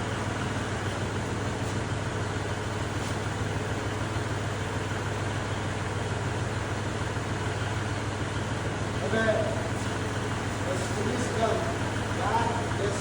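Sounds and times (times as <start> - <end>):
tractor engine running at low revs: 0.0 - 13.0.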